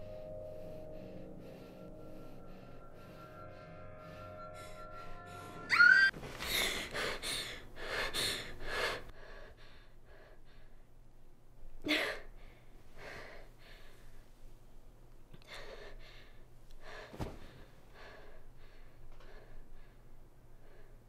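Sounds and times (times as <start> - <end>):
woman breathing hard: 0.0 - 11.0, 11.8 - 14.3, 15.4 - 21.0.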